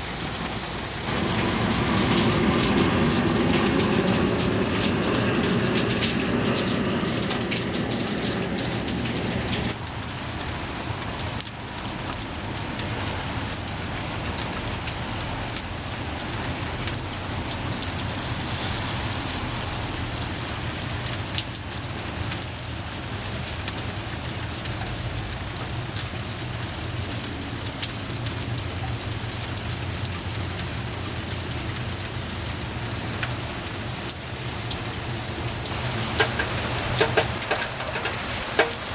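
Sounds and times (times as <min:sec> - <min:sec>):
deep rush of water: 0:00.0 - 0:38.9
steady rain falling: 0:00.0 - 0:38.9.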